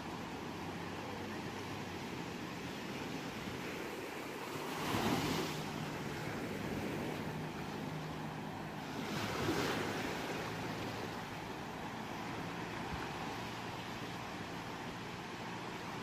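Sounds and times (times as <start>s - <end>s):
ocean waves on shore: 0.0s - 16.0s.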